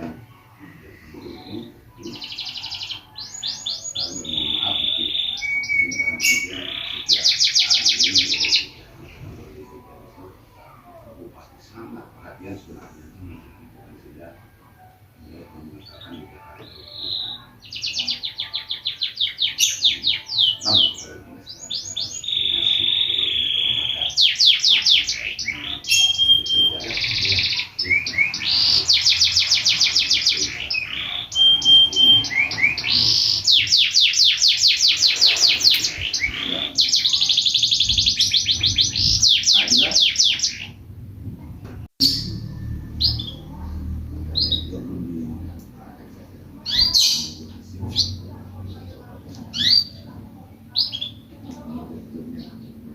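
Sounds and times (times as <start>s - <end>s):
lovebird chirping: 0.2s - 9.8s, 14.8s - 40.8s, 42.0s - 44.8s, 46.6s - 48.2s, 49.5s - 51.7s.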